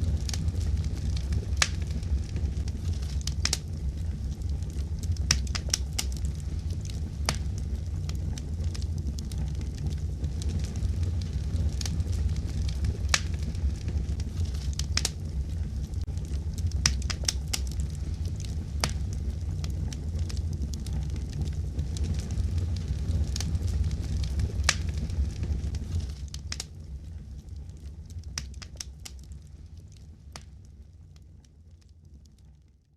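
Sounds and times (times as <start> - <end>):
fireplace crackling and popping: 0.0 - 32.9.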